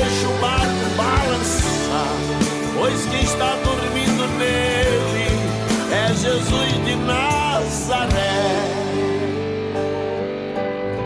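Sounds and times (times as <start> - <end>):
man singing: 0.0 - 9.5
band with guitar: 0.0 - 11.0.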